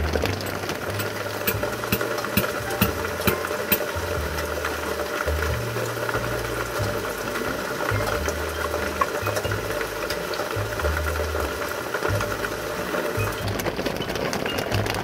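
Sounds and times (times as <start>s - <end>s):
bass line of background music: 0.0s - 15.0s
heavy rain falling: 0.0s - 15.0s
rain drop ticks: 0.0s - 15.0s.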